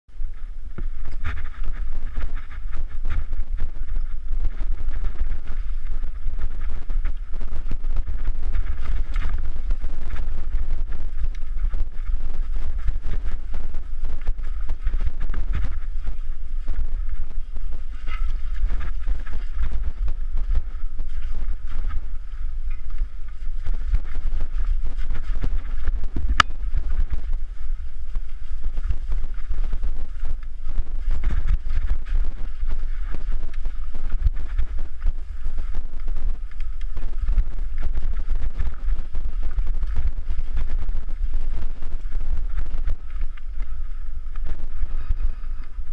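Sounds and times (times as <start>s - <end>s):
wind rumble on microphone: 0.0s - 45.9s
bike rattling over rough ground: 0.1s - 45.9s.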